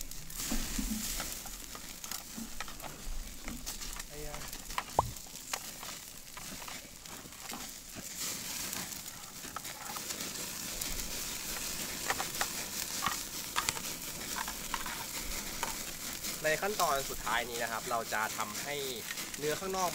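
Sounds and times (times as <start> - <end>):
crackles and pops: 0.0 - 19.9
steak sizzling over charcoal: 0.0 - 19.9.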